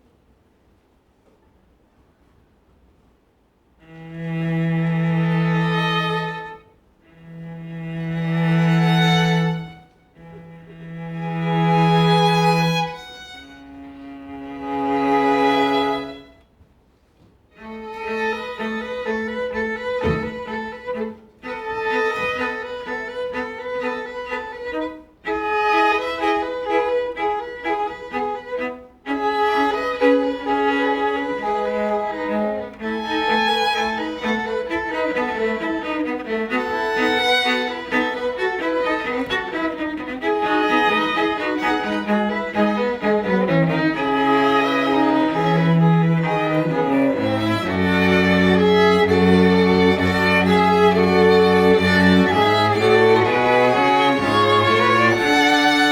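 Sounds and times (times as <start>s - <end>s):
instrumental ensemble music: 3.9s - 16.3s, 17.6s - 55.9s.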